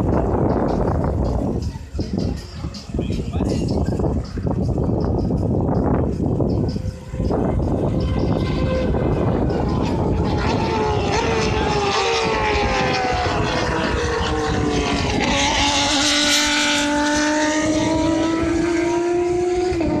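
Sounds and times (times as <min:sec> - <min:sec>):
race cars passing at high revs: 0:03.5 - 0:20.0.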